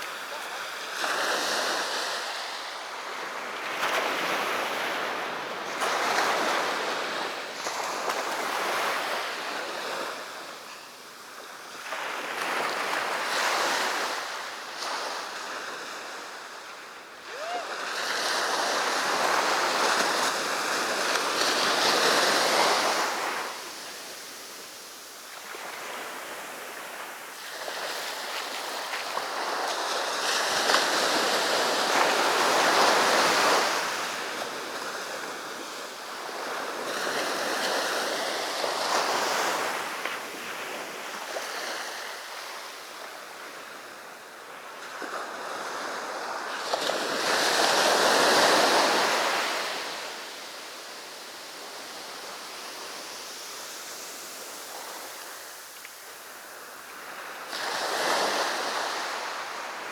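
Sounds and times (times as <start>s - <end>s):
sea waves breaking on beach: 0.0s - 44.0s, 44.6s - 59.9s.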